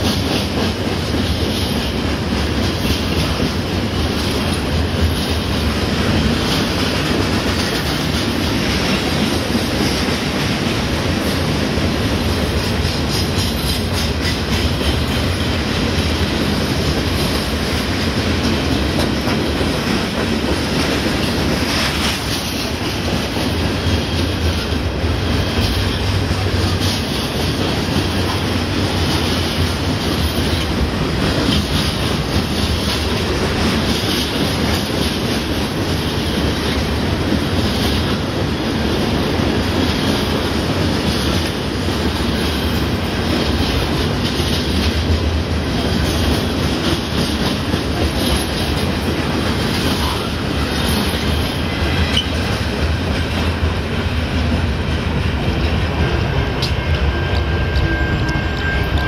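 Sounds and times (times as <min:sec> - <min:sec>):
freight train rumble: 0:00.0 - 0:59.0
wheels clacking on rails: 0:00.0 - 0:59.0.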